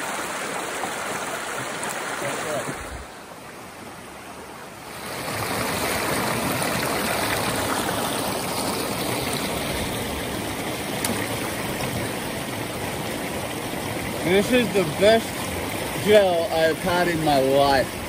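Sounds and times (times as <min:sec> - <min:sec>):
creek rushing over rocks: 0:00.0 - 0:18.0.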